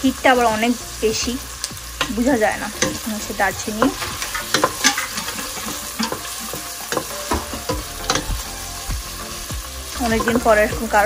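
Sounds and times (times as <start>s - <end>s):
spices sizzling in a pot: 0.0s - 11.0s
spatula clinking and scraping pot: 2.0s - 11.0s.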